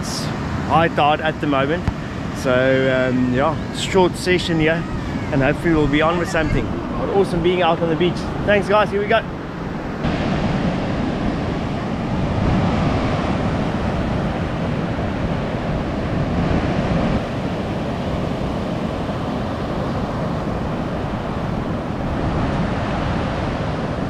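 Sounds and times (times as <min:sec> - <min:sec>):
surf breaking on beach: 0:00.0 - 0:24.0
wind rumbling on microphone: 0:00.0 - 0:24.0.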